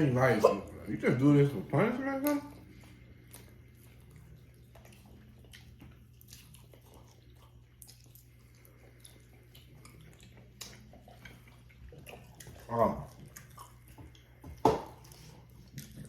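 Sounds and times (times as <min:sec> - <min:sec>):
low steady hum: 0:00.0 - 0:16.0
people chewing wetly: 0:00.0 - 0:16.0.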